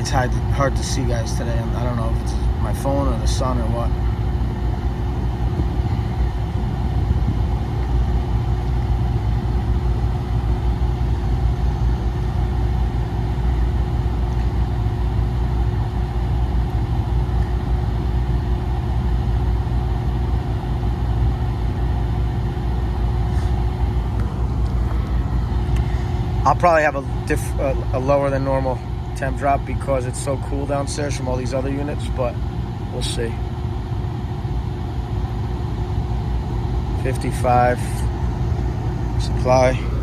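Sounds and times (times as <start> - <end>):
air conditioning unit humming: 0.0 - 40.0.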